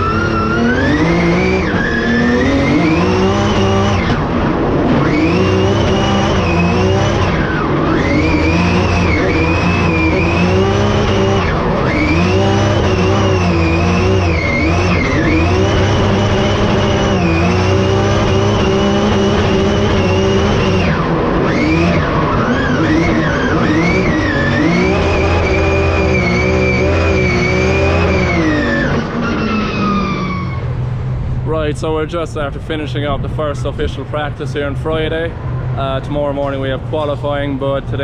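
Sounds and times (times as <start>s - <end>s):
car engine at high revs: 0.0s - 38.0s.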